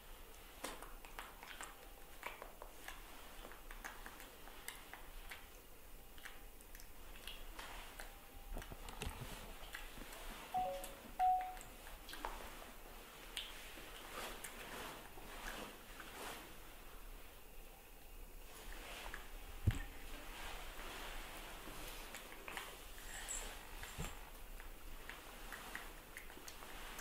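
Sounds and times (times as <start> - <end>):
soft clicks and rustles: 0.1 - 17.4, 18.0 - 27.0.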